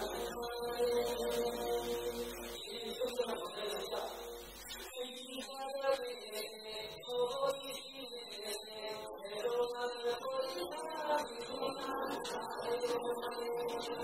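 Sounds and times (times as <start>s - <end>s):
man singing: 0.0s - 3.6s, 4.9s - 14.0s.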